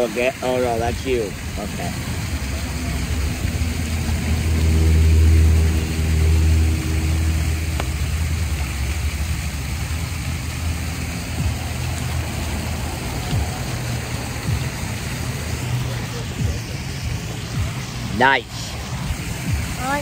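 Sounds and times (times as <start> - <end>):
low rumble of traffic: 0.0 - 20.0
vehicle engine passing by: 1.3 - 20.0.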